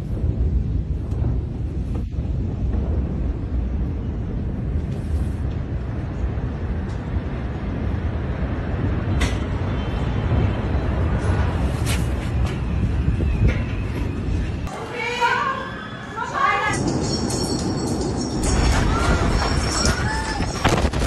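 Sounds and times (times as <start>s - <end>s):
low rumble of explosion: 0.0s - 14.7s, 16.8s - 21.0s.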